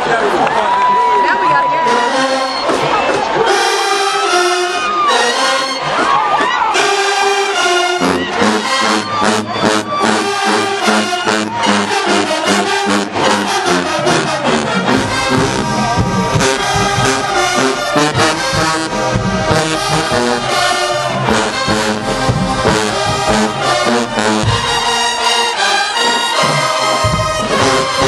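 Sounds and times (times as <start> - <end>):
low horns: 0.7 - 28.0
brass horns playing: 1.5 - 28.0
marching drum cadence: 2.0 - 28.0.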